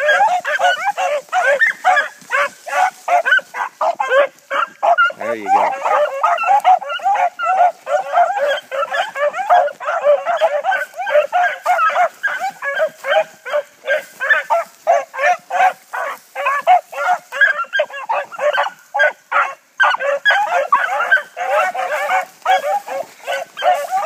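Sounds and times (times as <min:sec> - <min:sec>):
hounds baying and barking: 0:00.0 - 0:24.0.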